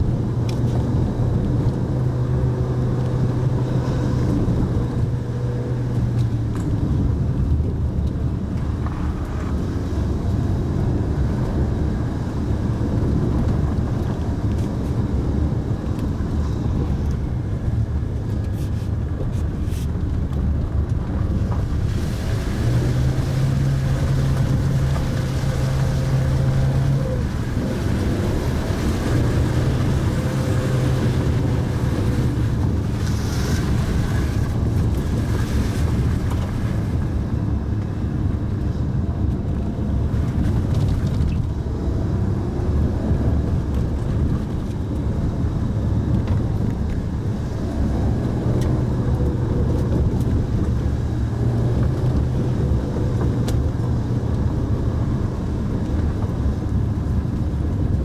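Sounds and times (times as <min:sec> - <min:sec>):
car engine running: 0:00.0 - 0:58.0
tyre and wind noise: 0:00.0 - 0:58.0.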